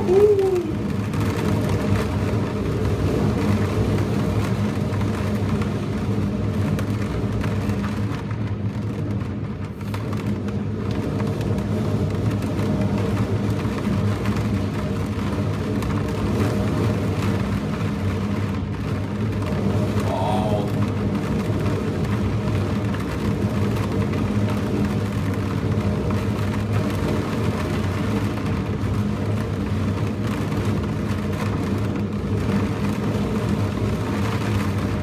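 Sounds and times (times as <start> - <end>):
strong gale wind on microphone: 0.0 - 35.0.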